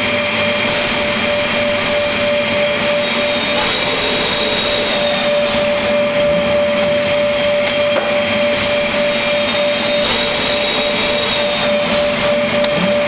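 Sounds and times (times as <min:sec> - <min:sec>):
panel saw machine whining: 0:00.0 - 0:13.0.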